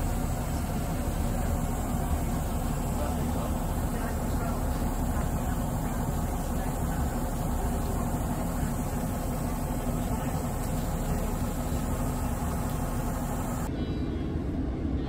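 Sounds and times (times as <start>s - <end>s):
train carriage hiss: 0.0s - 13.7s
train carriage rumble: 0.0s - 15.0s.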